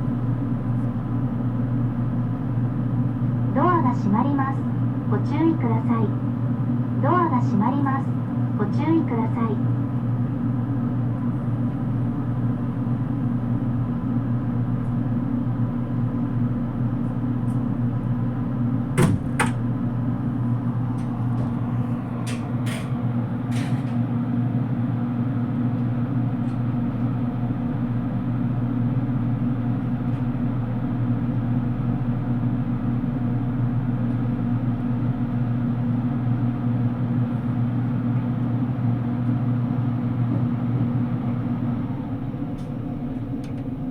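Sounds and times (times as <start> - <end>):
train cabin low drone: 0.0 - 43.9.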